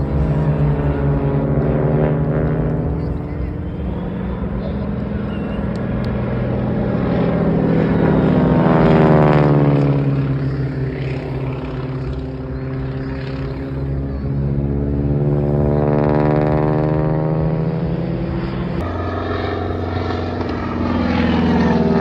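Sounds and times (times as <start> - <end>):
propeller airplane flying past: 0.0 - 22.0.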